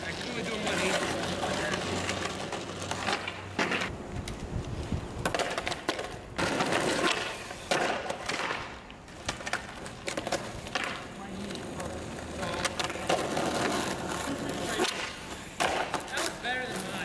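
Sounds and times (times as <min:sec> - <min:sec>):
skateboard clacking on ground: 0:00.0 - 0:04.5, 0:05.2 - 0:17.0
skateboard wheels rolling on asphalt: 0:00.0 - 0:17.0.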